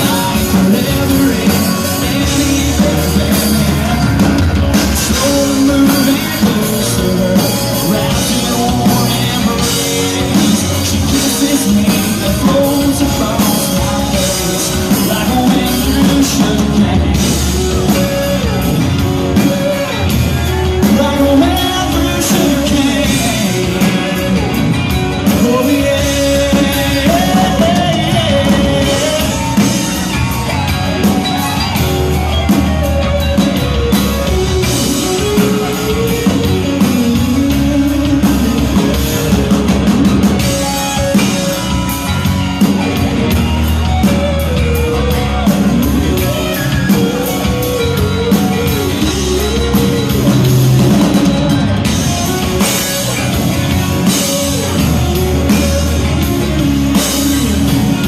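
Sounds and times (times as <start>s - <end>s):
guitar melody: 0.0s - 58.0s
live rock band playing: 0.0s - 58.0s.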